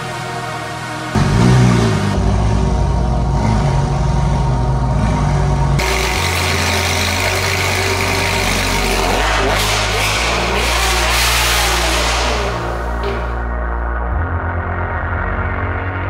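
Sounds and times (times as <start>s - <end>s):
sports car engine running: 0.0s - 16.0s.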